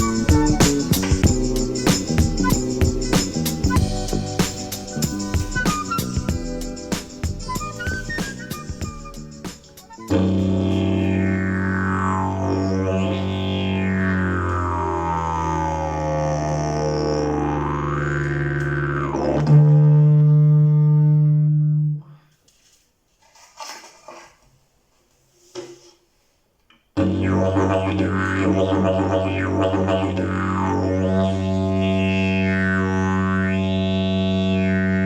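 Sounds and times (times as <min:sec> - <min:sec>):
didgeridoo drone: 0:00.0 - 0:22.1, 0:27.0 - 0:35.0.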